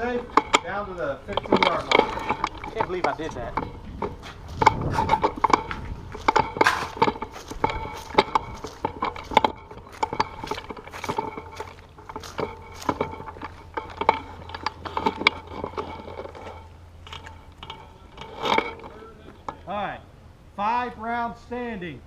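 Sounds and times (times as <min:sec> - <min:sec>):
footsteps: 0:00.0 - 0:19.7
rifles and gear clattering: 0:00.0 - 0:19.7.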